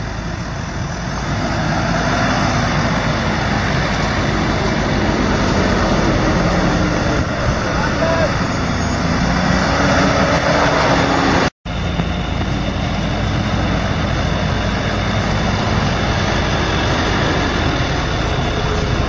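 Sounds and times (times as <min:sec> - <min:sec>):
pickup truck engine driving by: 0:00.0 - 0:19.0
steady rushing noise: 0:00.0 - 0:19.0.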